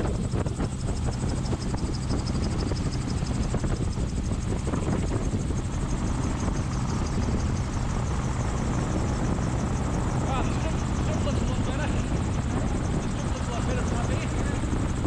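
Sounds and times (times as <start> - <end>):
gyroplane engine and propeller drone: 0.0 - 15.0.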